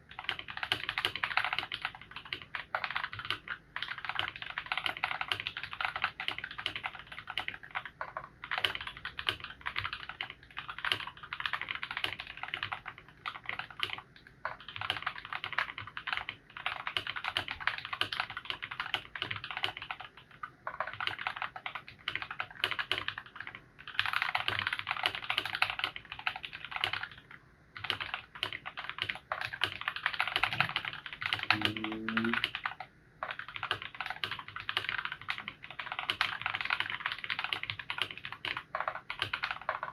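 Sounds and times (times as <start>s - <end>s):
mechanical keyboard typing: 0.1s - 39.9s.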